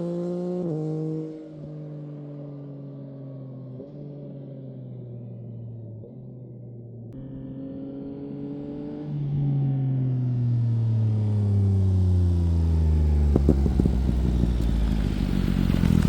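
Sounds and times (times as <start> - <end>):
motorcycle engine decelerating: 0.0 - 16.0.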